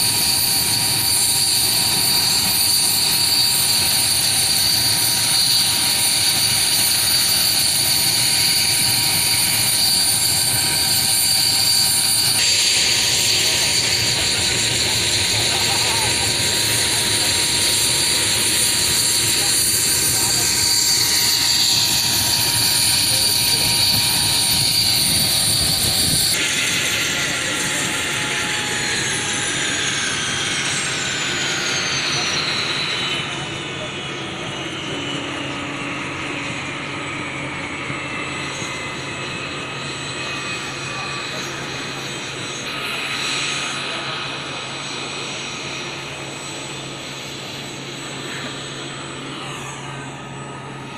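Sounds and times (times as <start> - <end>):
helicopter rotor noise: 0.0 - 50.9
turbine engines whining: 0.0 - 50.9.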